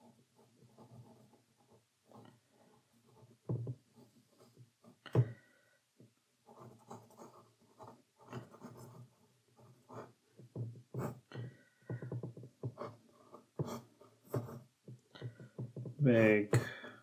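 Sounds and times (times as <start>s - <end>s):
pencil scratching on paper: 0.0s - 5.4s, 6.4s - 16.0s.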